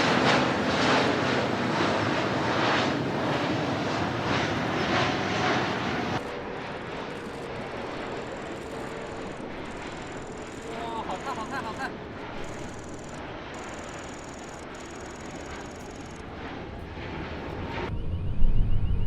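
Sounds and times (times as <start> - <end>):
jet airliner roar: 0.0 - 19.0.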